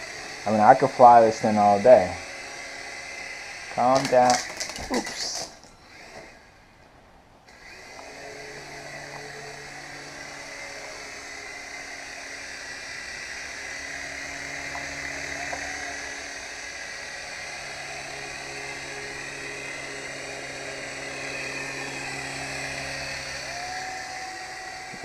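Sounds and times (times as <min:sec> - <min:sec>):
toy helicopter motors whining: 0:00.0 - 0:06.8, 0:07.5 - 0:25.0.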